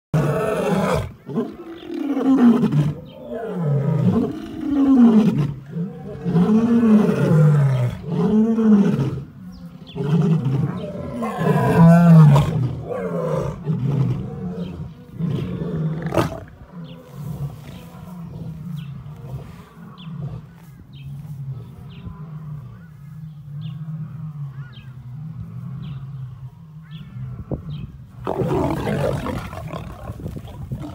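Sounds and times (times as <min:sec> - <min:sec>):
lionesses snarling and growling: 0:00.2 - 0:30.9.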